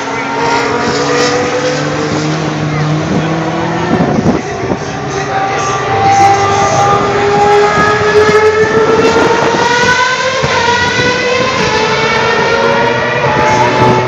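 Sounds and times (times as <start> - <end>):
racing car engine at high revs: 0.0 - 14.0.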